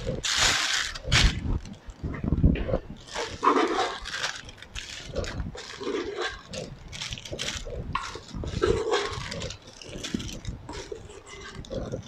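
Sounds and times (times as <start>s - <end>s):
plastic piping bag crinkling: 0.0s - 2.1s, 3.0s - 12.0s.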